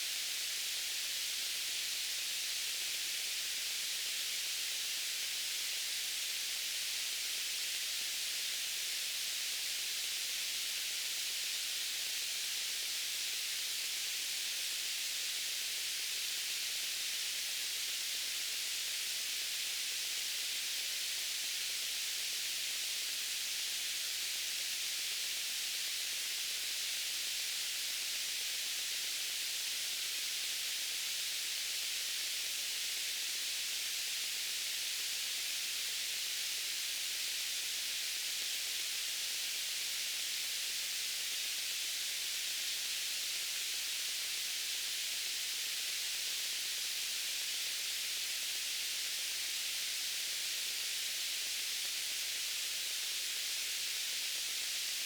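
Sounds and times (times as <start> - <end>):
bright white noise hiss: 0.0 - 55.0.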